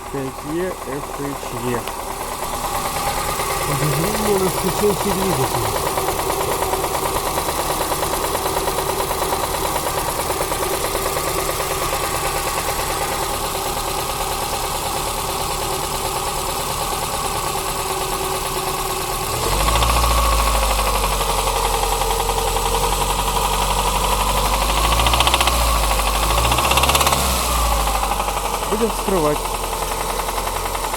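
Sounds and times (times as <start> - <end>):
car engine knocking: 0.0 - 30.9.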